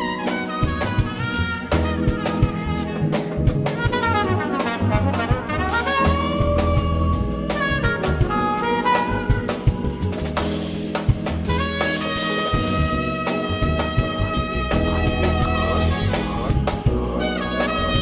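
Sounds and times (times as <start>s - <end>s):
trumpet playing lead: 0.0s - 10.0s, 11.5s - 18.0s
live jazz band: 0.0s - 18.0s.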